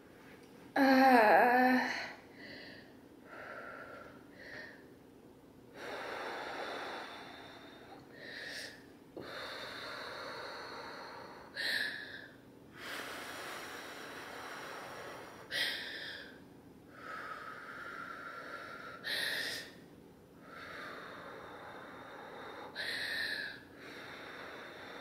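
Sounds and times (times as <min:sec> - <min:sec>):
woman breathing heavily: 0:00.7 - 0:05.0, 0:05.7 - 0:25.0.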